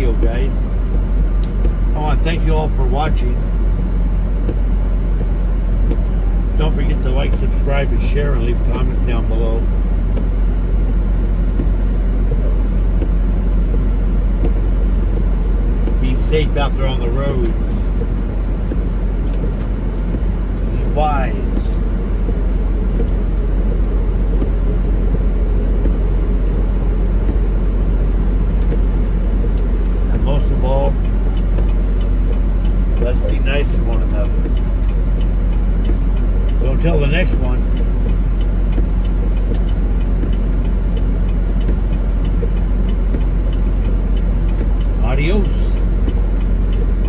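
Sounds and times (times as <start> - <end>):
road noise: 0.0 - 47.0
truck engine rumble: 0.0 - 47.0.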